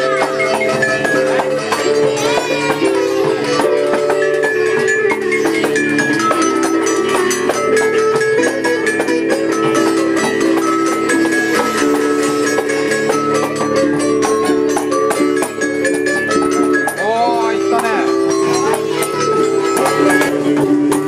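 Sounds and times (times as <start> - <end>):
plucked rhythmic strokes: 0.0 - 21.0
plucked string instrument melody: 0.0 - 21.0.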